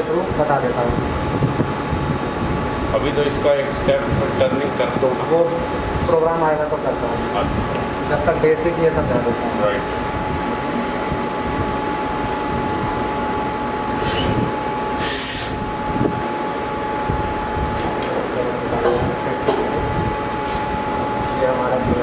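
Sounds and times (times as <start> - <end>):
lathe humming and whining: 0.0 - 22.0.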